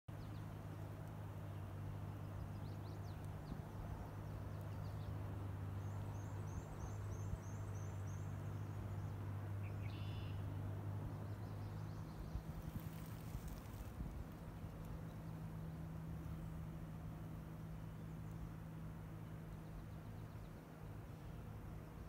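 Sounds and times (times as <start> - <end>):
faint birdsong: 0.1 - 22.0
steady low hum: 0.1 - 22.0
soft wash of noise: 0.2 - 22.0.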